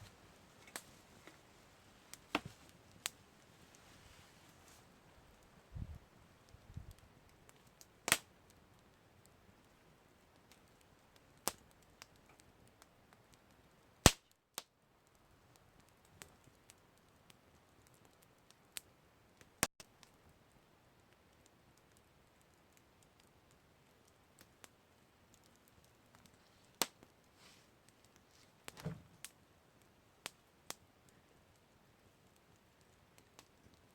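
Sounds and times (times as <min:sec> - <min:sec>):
campfire crackling and popping: 0:00.0 - 0:33.9.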